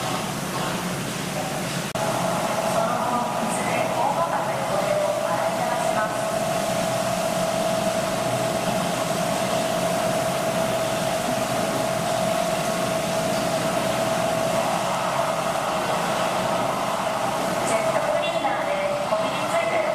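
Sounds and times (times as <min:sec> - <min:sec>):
machine hum with steady tone: 0:00.0 - 0:19.9.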